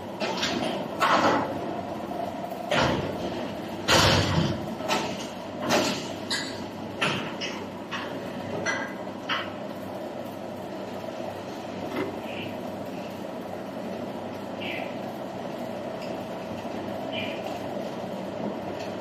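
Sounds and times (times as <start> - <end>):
industrial machinery humming: 0.0 - 19.0.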